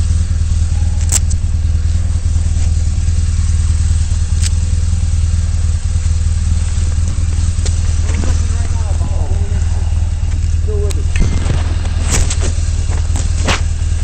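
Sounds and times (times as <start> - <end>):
motorcycle engine low rumble: 0.0 - 14.0.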